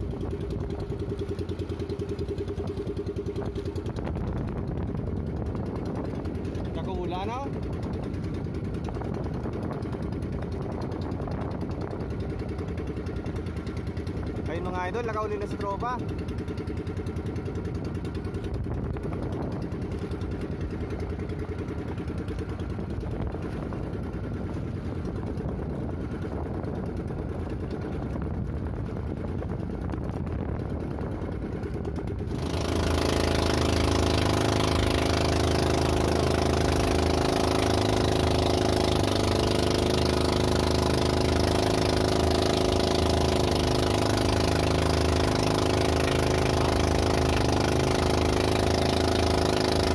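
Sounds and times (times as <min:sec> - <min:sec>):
small boat engine running: 0:00.0 - 0:49.9.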